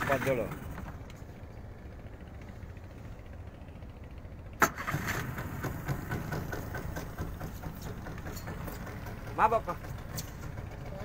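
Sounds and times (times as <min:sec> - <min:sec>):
outboard motor rumbling: 0:00.0 - 0:11.0.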